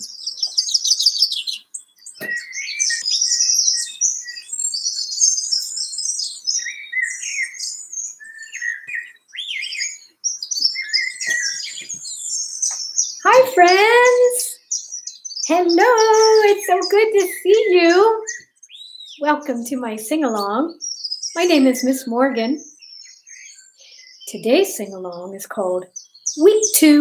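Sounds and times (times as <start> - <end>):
songbirds chirping and trilling: 0.0 - 27.0.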